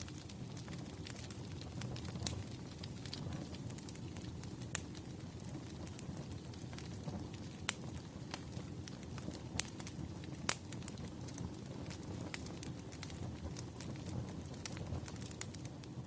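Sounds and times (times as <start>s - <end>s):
sharp pops from fire: 0.0s - 16.0s
wood fire crackling: 0.0s - 16.0s.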